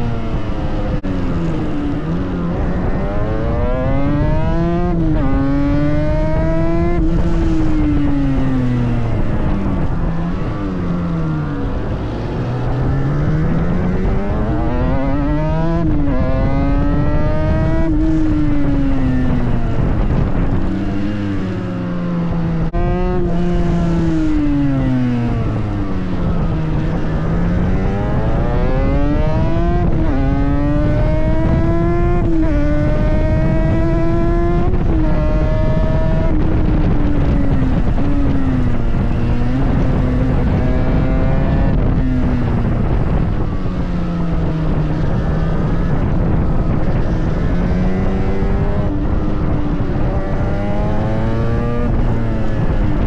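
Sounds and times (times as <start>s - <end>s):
motorcycle engine revving: 0.0s - 53.0s
wind rushing across microphone: 0.0s - 53.0s.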